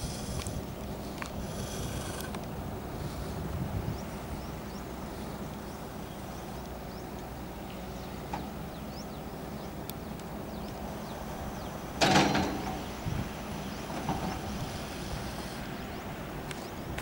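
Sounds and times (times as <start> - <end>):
birds chirping: 0.0 - 17.0
distant construction machinery hum: 0.0 - 17.0.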